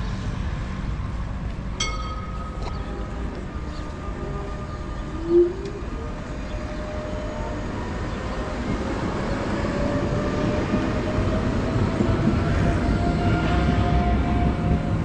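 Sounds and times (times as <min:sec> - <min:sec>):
tram motors whining: 0:00.0 - 0:15.0.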